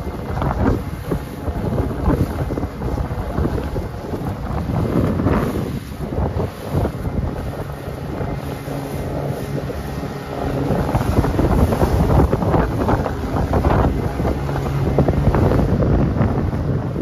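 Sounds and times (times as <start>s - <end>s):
motorboat engine running: 0.0s - 17.0s
wind buffeting on microphone: 0.0s - 17.0s.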